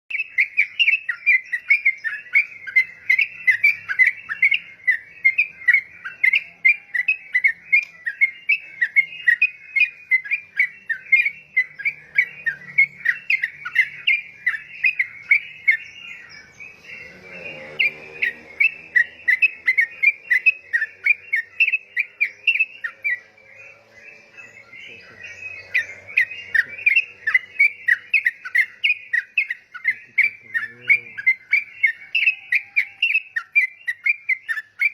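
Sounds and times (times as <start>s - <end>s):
bird chirping rapidly: 0.1s - 34.9s.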